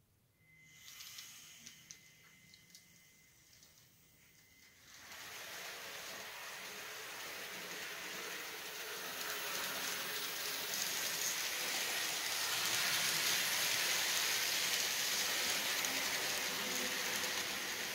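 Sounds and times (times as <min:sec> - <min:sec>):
model train running past: 0:00.4 - 0:17.9.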